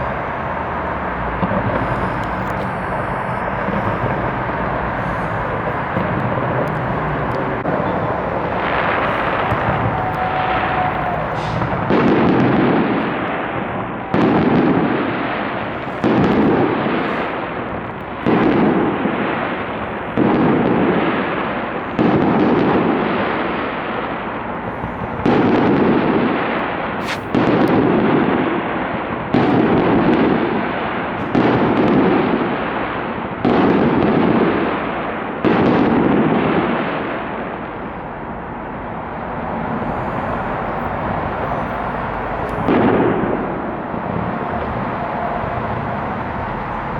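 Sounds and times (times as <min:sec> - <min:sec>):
fireworks booming: 0:00.0 - 0:46.9.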